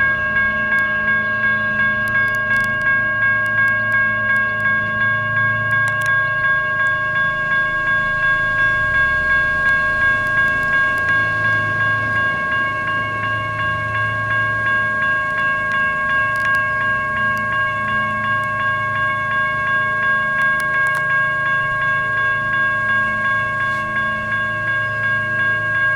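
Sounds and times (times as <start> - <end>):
crossing bell dinging: 0.0 - 25.9
passing train rumble: 0.0 - 25.9.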